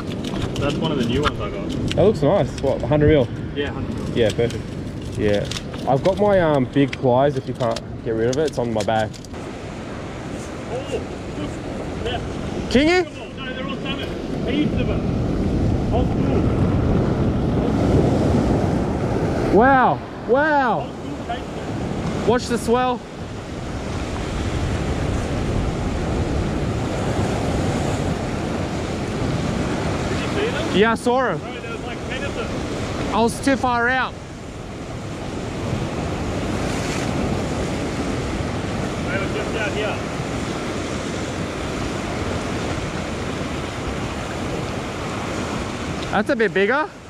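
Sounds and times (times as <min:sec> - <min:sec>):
surf washing over rocks: 0:00.0 - 0:47.0
wind buffeting microphone: 0:00.0 - 0:47.0.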